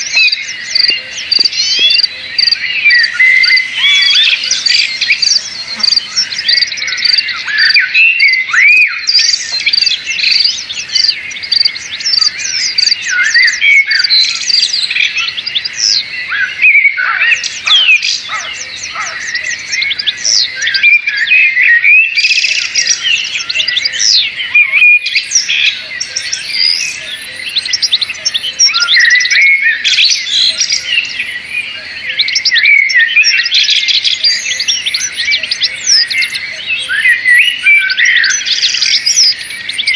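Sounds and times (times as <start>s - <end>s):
birds chirping chorus: 0.0s - 39.9s.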